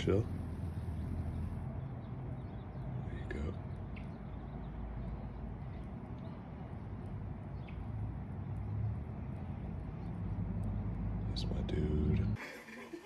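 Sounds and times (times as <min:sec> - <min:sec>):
low outdoor rumble: 0:00.0 - 0:12.4.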